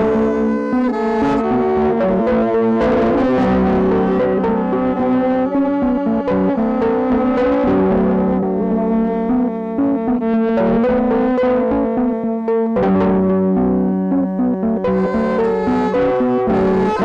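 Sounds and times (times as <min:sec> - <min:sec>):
instrumental music with held chords: 0:00.0 - 0:17.0.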